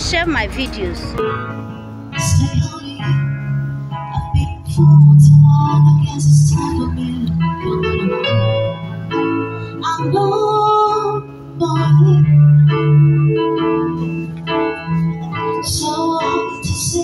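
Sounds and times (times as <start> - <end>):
electronic organ chords: 0.0 - 17.0
woman singing into a microphone: 2.1 - 14.0, 15.2 - 17.0.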